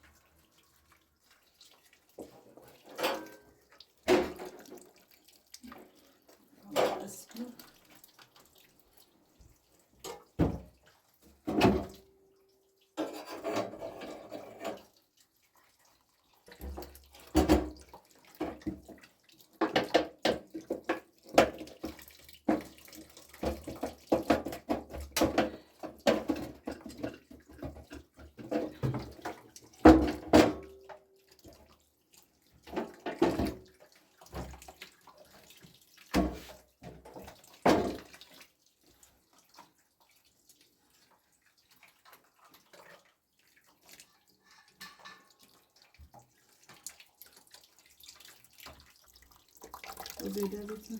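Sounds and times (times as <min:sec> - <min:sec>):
water splashing in a basin: 0:00.0 - 0:50.9.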